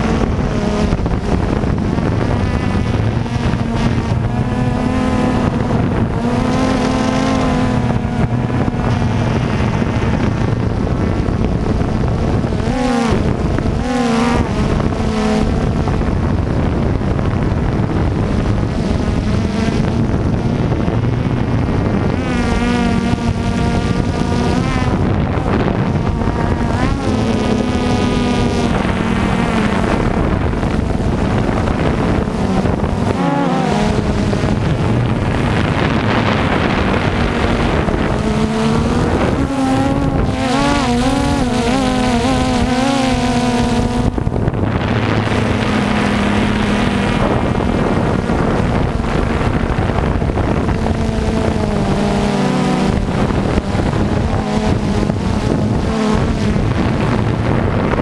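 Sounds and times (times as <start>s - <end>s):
drone propellers whining: 0.0s - 58.0s
steady rushing noise: 0.0s - 58.0s.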